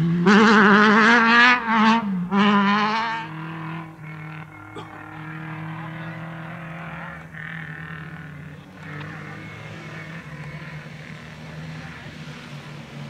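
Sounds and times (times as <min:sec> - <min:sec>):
rally car engine approaching: 0:00.0 - 0:13.0.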